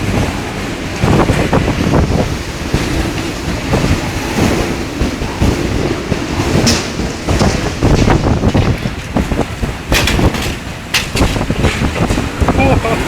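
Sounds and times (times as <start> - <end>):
torrential rain: 0.0 - 13.0
wind gusts buffeting microphone: 0.0 - 13.0.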